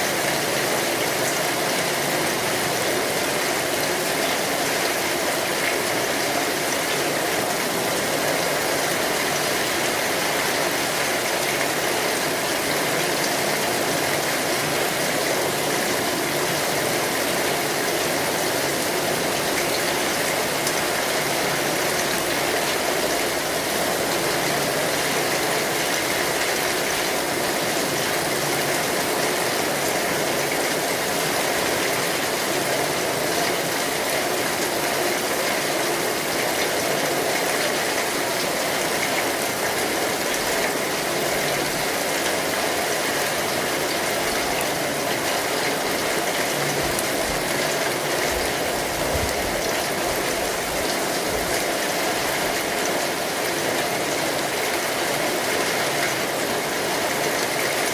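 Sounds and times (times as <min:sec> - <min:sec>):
rain on an umbrella: 0:00.0 - 0:57.9.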